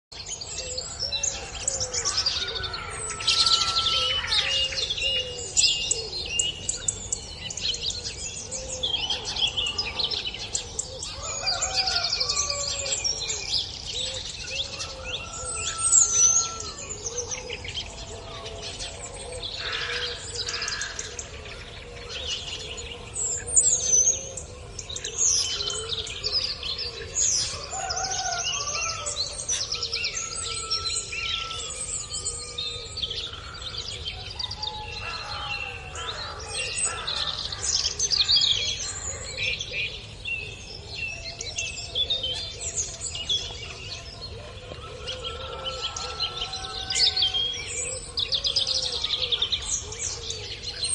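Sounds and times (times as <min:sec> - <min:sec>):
birds chirping and trilling: 0:00.1 - 0:50.9.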